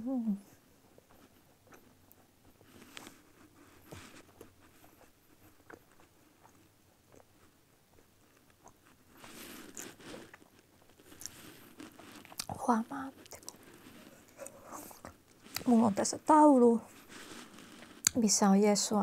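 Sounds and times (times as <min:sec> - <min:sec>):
person chewing crunchy food: 0:00.5 - 0:15.8.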